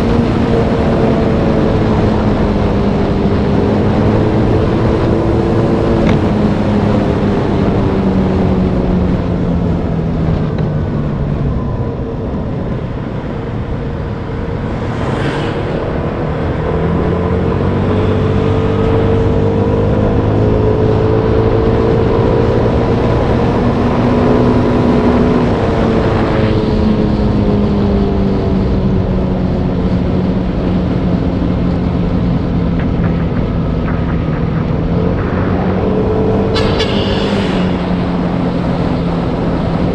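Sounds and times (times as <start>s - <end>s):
heavy rushing noise: 0.0s - 28.0s, 30.6s - 39.9s.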